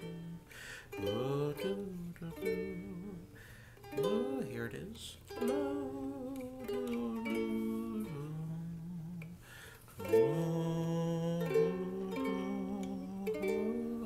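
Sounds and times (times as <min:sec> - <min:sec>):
man humming: 0:00.0 - 0:09.4, 0:10.0 - 0:14.0
ukulele playing chords: 0:00.0 - 0:14.0.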